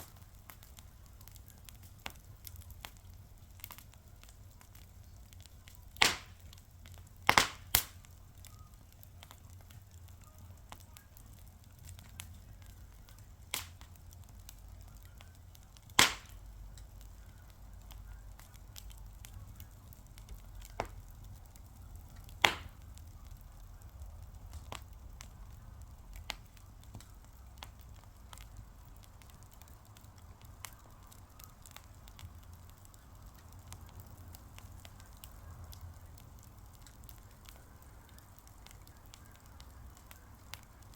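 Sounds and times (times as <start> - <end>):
fire crackling with sharp pops: 0.0 - 40.9
low steady rumble: 0.0 - 40.9.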